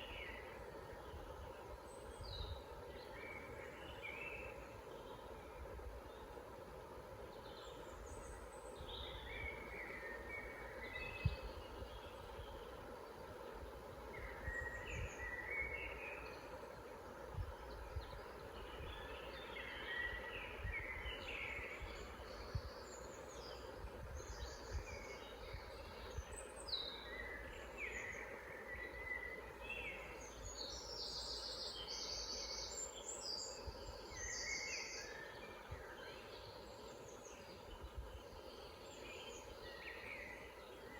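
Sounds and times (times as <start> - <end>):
songbirds chirping and warbling: 0.0 - 40.9.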